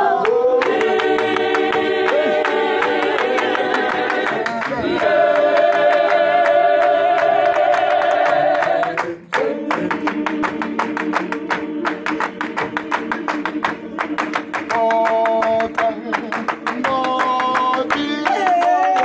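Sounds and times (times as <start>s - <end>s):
gospel choir singing: 0.0s - 19.0s
hand clapping: 0.2s - 19.0s.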